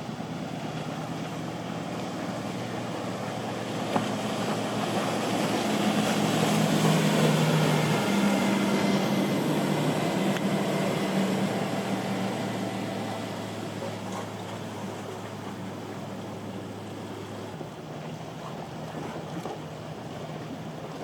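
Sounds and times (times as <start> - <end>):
motorboat engines humming: 0.0 - 21.0
waves: 0.0 - 21.0
wind: 0.0 - 21.0.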